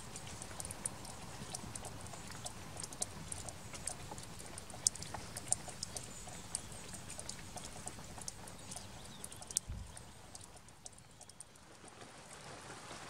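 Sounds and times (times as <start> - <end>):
raindrops dripping and pattering: 0.0 - 13.0.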